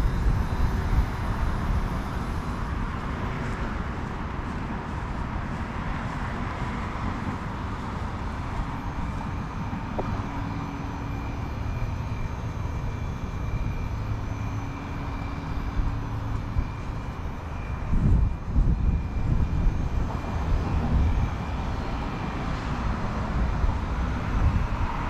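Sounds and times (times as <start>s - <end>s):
faint steady whine: 0.0s - 25.0s
low hum: 0.0s - 25.0s.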